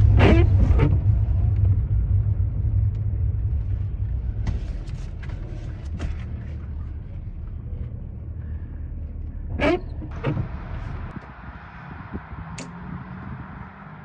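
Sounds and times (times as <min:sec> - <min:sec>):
road and engine rumble in van: 0:00.0 - 0:14.0.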